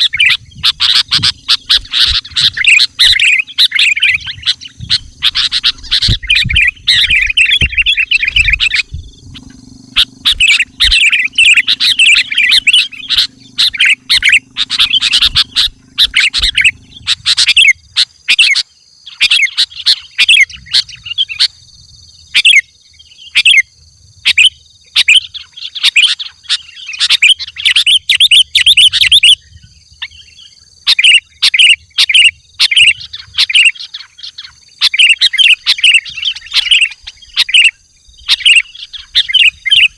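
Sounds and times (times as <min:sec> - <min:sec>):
bulbul singing chattering phrases: 0:00.0 - 0:39.9.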